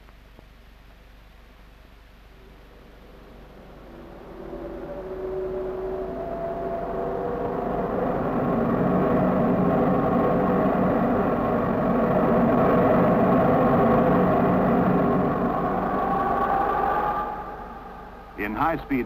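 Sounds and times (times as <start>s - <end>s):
faint whine: 0.0s - 19.0s
wind tunnel fan roaring: 2.4s - 19.0s.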